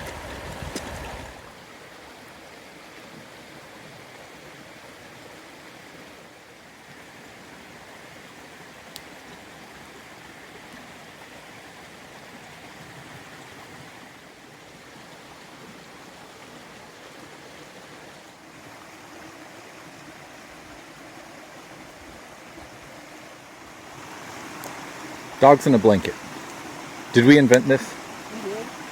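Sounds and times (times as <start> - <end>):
creek water flowing: 0.0 - 28.9.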